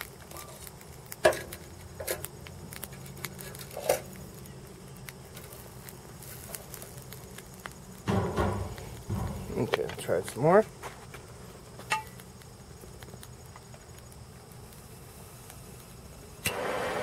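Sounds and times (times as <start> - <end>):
faint crackling of melting plastic: 0.0 - 17.0.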